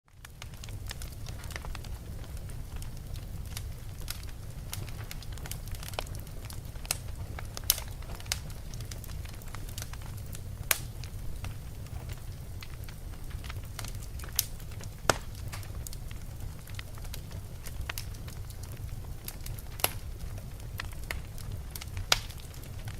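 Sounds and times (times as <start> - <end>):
low rumble of flames: 0.1 - 22.9
wood fire crackling: 0.1 - 22.9
sharp pops of burning wood: 0.2 - 22.9.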